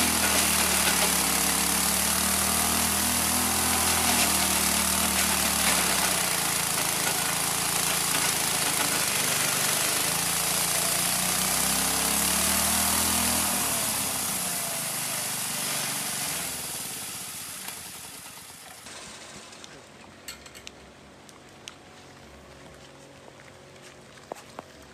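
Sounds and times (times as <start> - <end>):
engine driven grinder running: 0.0 - 20.0.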